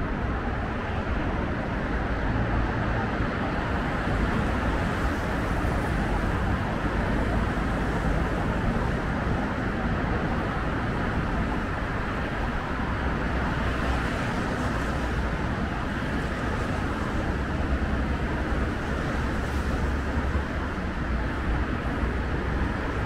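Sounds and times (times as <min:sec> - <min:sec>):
city road traffic hum: 0:00.0 - 0:23.0.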